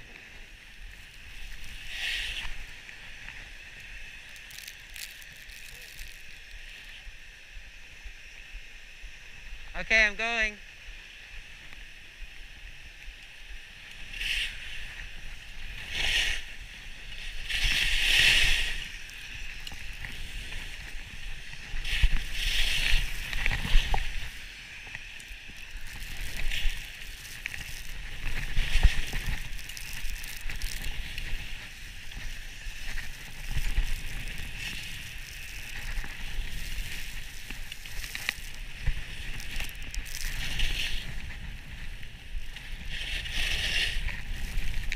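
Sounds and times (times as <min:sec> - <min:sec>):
skis scraping over snow: 0:00.0 - 0:07.0, 0:12.4 - 0:44.9.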